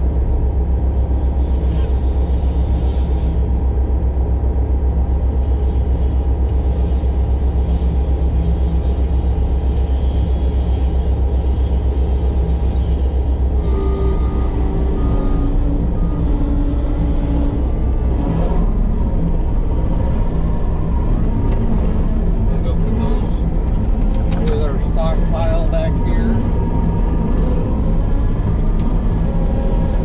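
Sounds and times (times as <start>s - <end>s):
diesel engine low rumble: 0.0s - 30.0s
high steady whines: 0.0s - 30.0s.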